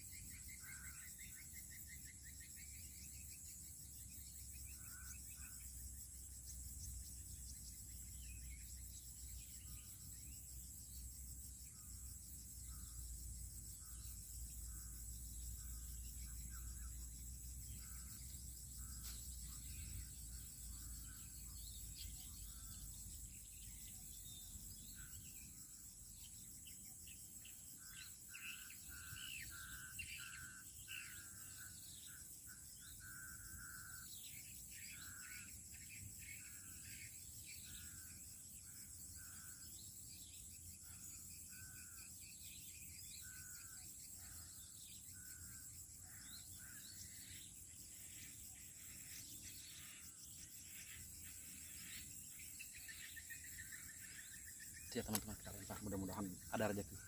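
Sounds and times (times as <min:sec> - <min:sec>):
bird chirping: 0:00.0 - 0:57.0
insects trilling: 0:00.0 - 0:57.0.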